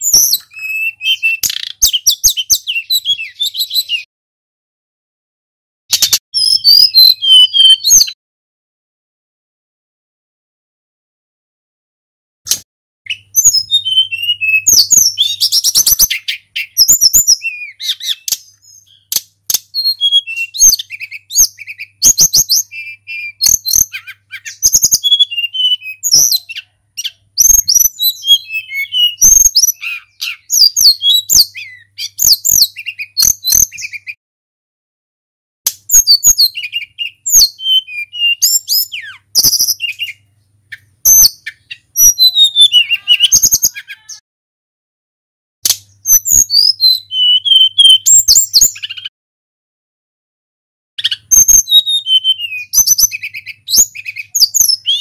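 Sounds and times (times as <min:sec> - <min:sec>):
songbird whistling and trilling: 0:00.0 - 0:04.1, 0:05.9 - 0:08.2, 0:12.5 - 0:34.2, 0:35.7 - 0:44.2, 0:45.6 - 0:49.1, 0:51.0 - 0:55.0.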